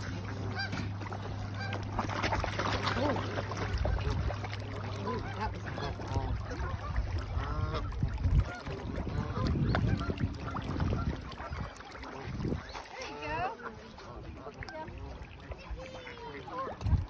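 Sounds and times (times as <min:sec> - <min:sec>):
geese honking: 0:00.0 - 0:04.2, 0:04.8 - 0:14.5
low steady rumble: 0:00.0 - 0:17.0.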